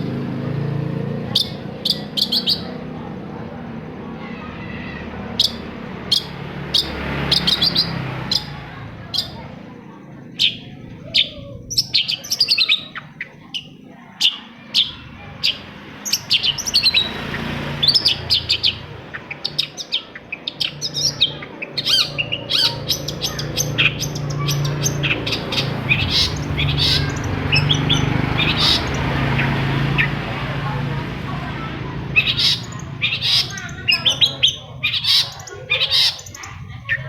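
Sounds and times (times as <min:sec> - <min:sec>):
bird chirping and trilling: 0:00.0 - 0:37.0.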